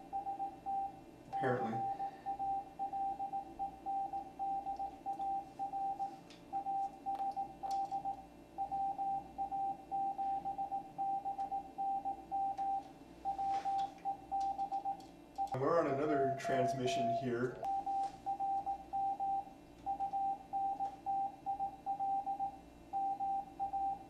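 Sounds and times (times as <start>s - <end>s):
morse code tone: 0.0s - 24.0s.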